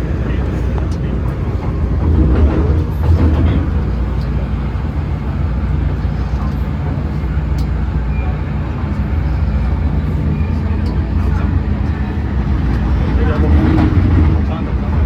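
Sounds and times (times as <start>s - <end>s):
train running with low rumble: 0.0s - 15.0s.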